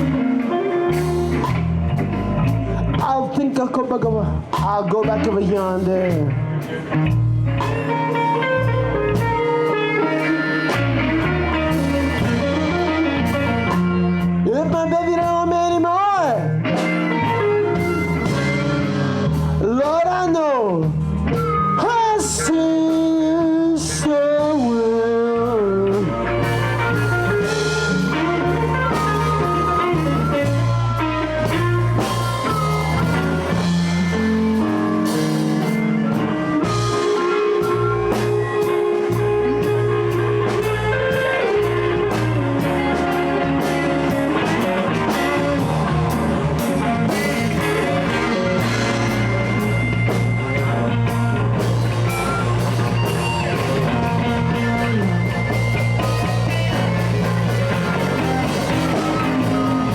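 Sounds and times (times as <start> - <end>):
blues band playing: 0.0 - 59.9
drum kit: 0.0 - 59.9
guitar: 0.0 - 59.9
stepping bass line: 0.0 - 59.9.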